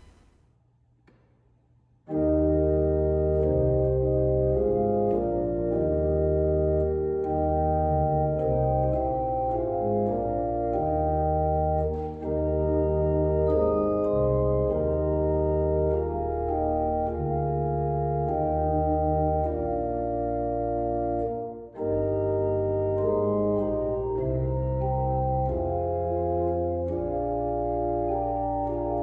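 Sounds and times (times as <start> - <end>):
organ playing sustained chords: 2.1 - 29.0.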